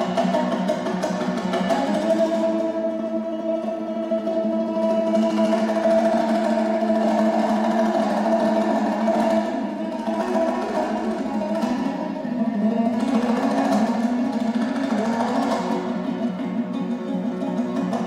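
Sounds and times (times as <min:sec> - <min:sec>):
two-stringed lute strummed fast: 0:00.0 - 0:18.0.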